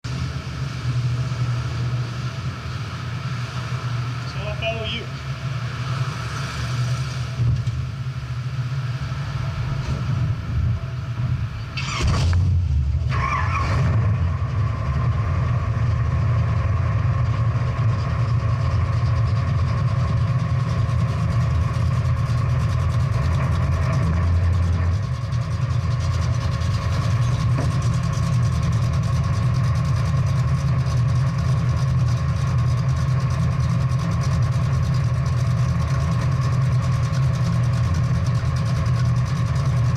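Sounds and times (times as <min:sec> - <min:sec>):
muscle car engine rumbling: 0:00.0 - 0:39.9.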